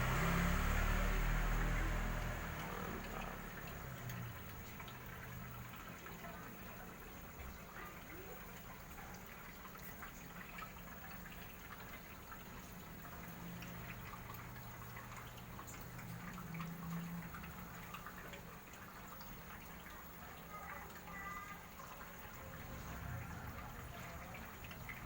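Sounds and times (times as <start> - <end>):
pump humming: 0.0 - 25.0
water drips: 0.0 - 25.0
water trickling and splashing: 0.0 - 25.0.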